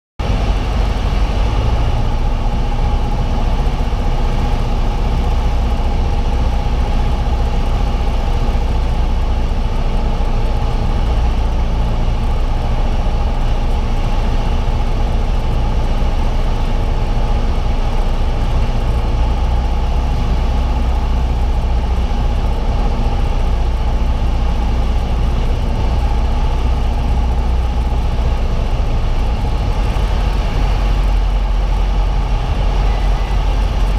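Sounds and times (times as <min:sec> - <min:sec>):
light aircraft engine droning: 0:00.2 - 0:33.9
rushing noise: 0:00.2 - 0:33.9.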